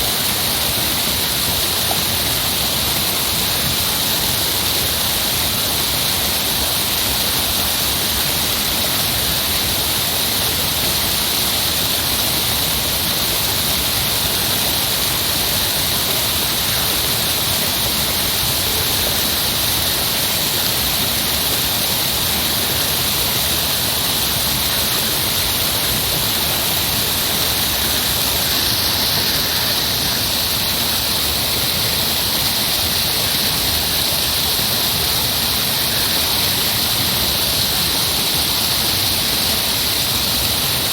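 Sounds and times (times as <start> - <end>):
heavy rushing water: 0.0 - 40.9.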